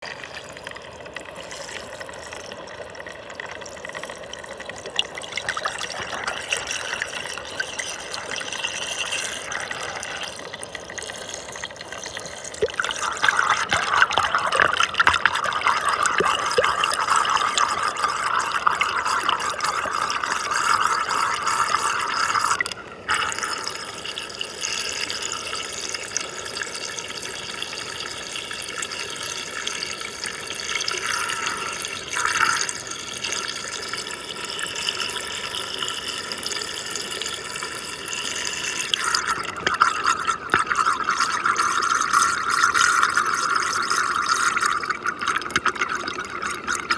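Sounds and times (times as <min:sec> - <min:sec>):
water rushing down a whirlpool: 0:00.0 - 0:46.9.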